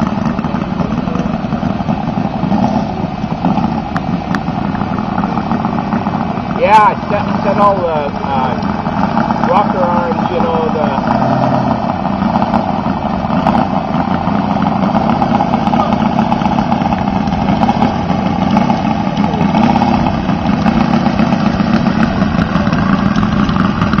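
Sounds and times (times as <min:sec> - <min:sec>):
model radial engine running: 0:00.0 - 0:24.0.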